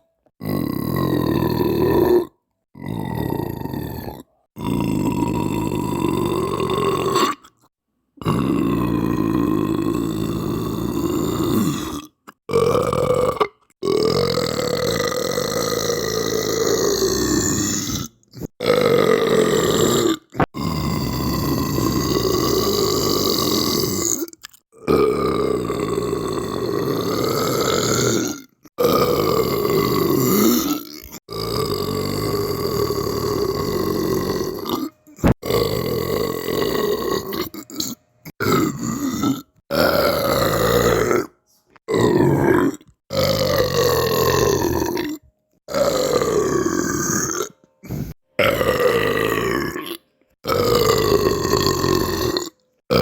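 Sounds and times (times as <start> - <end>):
deep rasping belches: 0.3 - 53.0.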